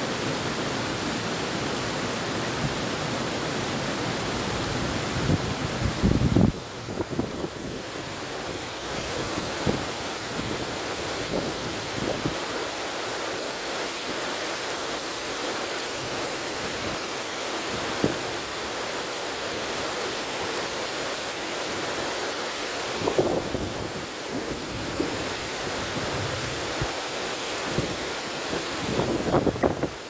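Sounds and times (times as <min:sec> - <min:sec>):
river water rushing: 0:00.0 - 0:30.0
wind: 0:00.0 - 0:30.0.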